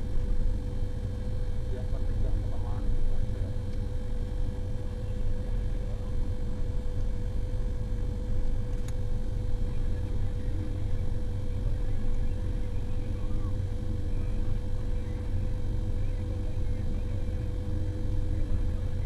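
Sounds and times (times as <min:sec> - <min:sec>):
constant engine whine: 0:00.0 - 0:19.0.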